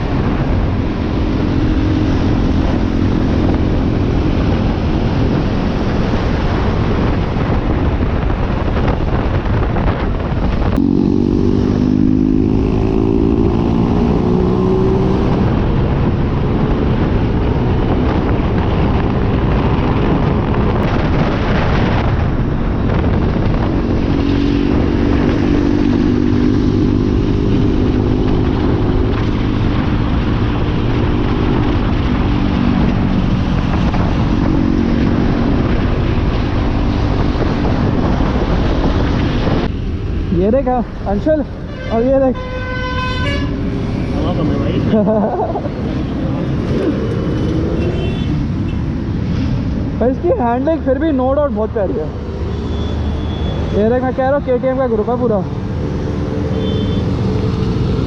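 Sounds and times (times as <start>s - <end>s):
wind rush on microphone: 0.0s - 58.0s.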